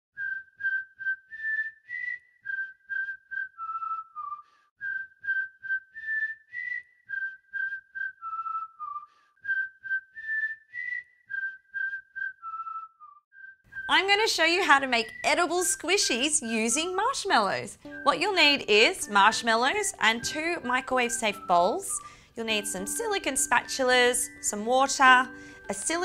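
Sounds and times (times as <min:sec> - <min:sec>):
whistled melody: 0:00.2 - 0:26.0.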